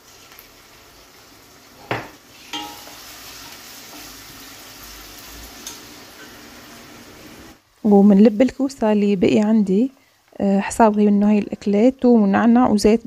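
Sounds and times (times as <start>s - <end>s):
vegetables sizzling in oil: 0.0s - 12.8s.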